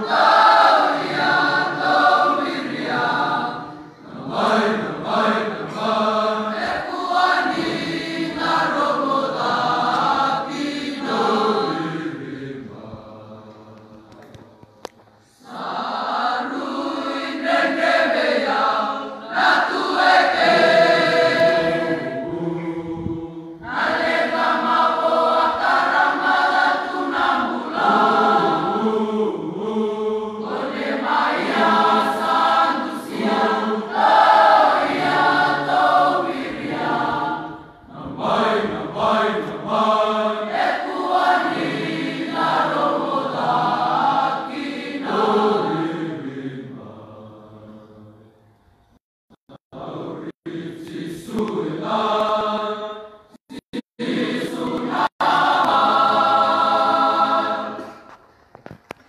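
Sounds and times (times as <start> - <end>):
crowd singing in unison: 0.0 - 14.6, 15.2 - 48.5, 49.6 - 58.2.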